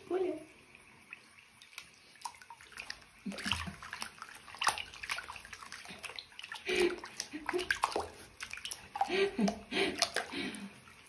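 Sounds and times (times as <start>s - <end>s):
water splashing in a sink: 0.0s - 11.0s.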